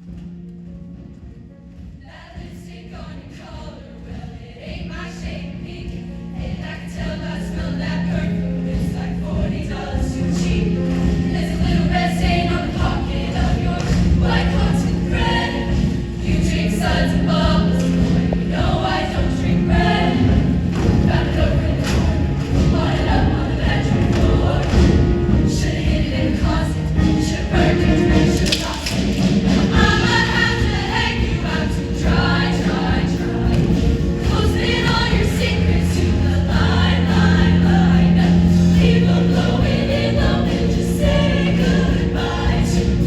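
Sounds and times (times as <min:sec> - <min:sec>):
choir singing: 0:02.0 - 0:43.0
instrumental accompaniment: 0:04.1 - 0:43.0.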